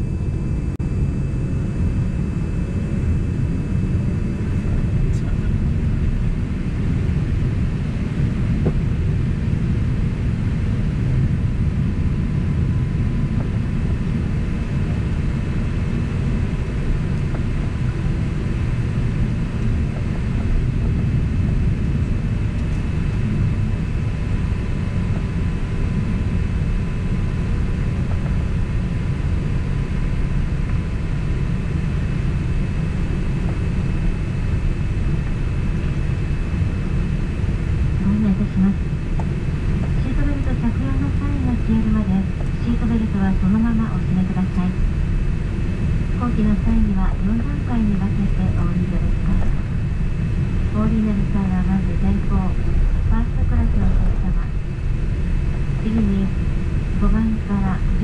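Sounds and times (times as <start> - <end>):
faint steady whine: 0.0 - 58.0
low rumble of aircraft engines: 0.0 - 58.0.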